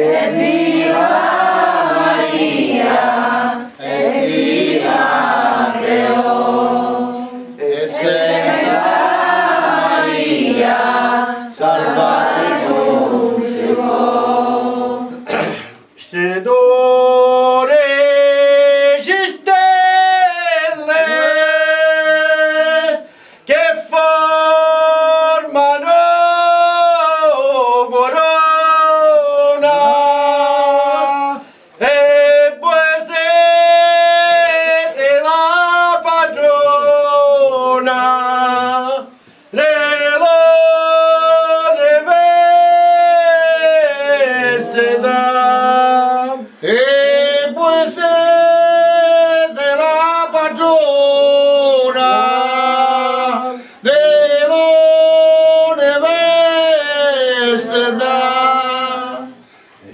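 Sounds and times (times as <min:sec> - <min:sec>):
men singing unaccompanied: 0:00.0 - 0:15.4, 0:16.0 - 0:59.5.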